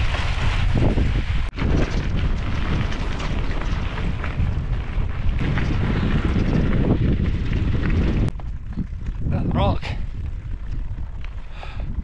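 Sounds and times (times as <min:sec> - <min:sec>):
tyres rolling over gravel: 0:00.0 - 0:11.5
wind buffeting microphone: 0:00.0 - 0:12.0.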